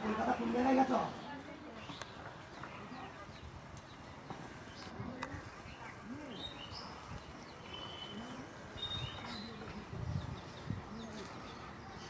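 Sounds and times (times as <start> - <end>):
faint outdoor background: 0.0 - 12.0
small birds chirping: 0.2 - 12.0.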